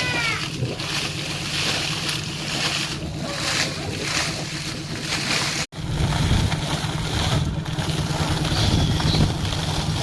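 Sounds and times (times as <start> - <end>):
water and air gushing: 0.0 - 10.0.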